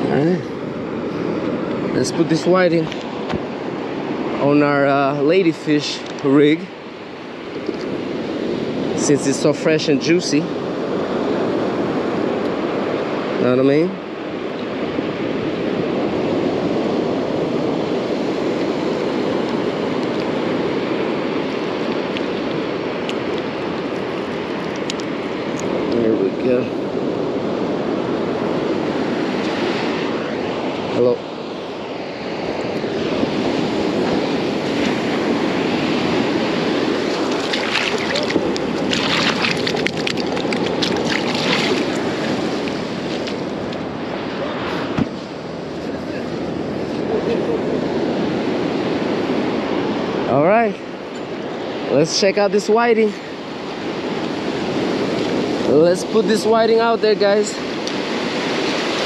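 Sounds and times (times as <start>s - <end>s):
ocean surf washing onto beach: 0.0s - 59.0s
wind on microphone: 0.0s - 59.0s.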